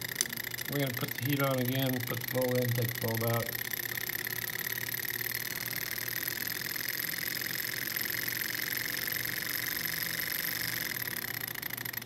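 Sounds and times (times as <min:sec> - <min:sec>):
small engine mechanical whir: 0:00.0 - 0:12.0.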